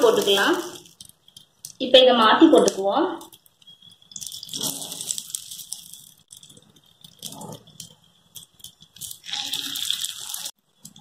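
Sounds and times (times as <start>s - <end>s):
ghee sizzling and crackling: 0.0s - 11.0s.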